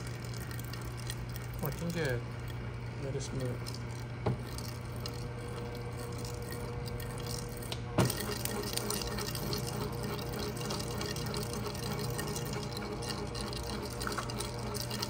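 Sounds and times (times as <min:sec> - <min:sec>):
mixer motor humming: 0:00.0 - 0:15.0.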